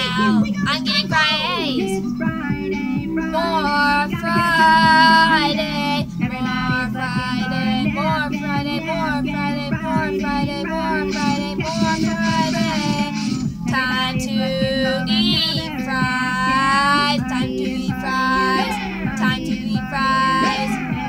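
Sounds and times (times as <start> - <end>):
high voice singing pop song: 0.0 - 21.0
music backing track: 0.0 - 21.0.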